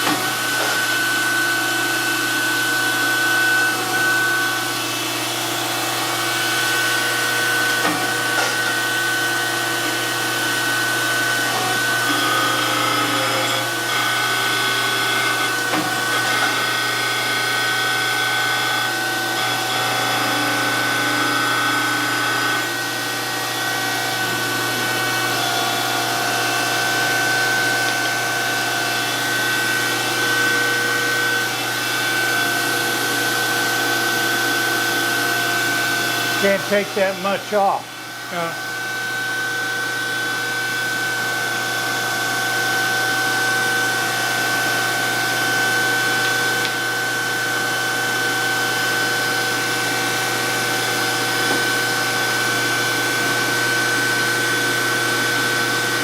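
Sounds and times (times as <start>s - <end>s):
surface grinder whine: 0.0s - 56.0s.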